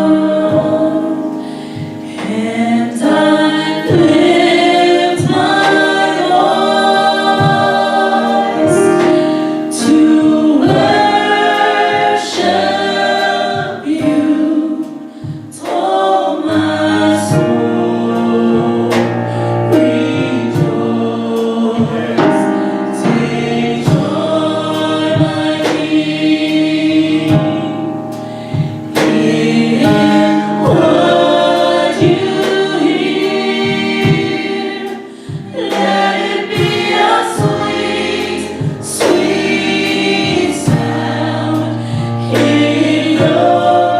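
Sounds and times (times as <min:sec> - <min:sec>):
vocal group singing in harmony: 0:00.0 - 0:43.9.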